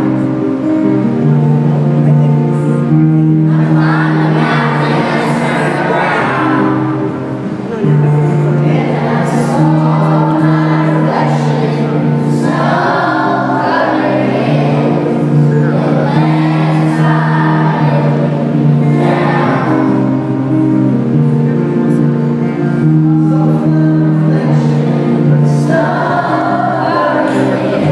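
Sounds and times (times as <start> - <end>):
bass line: 0.0 - 27.9
voices singing: 2.8 - 27.9.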